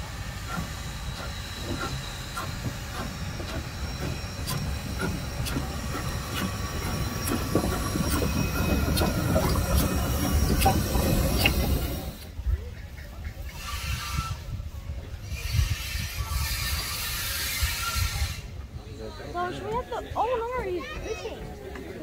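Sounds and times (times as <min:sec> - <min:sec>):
steam locomotive wheels rumbling: 0:00.0 - 0:21.9.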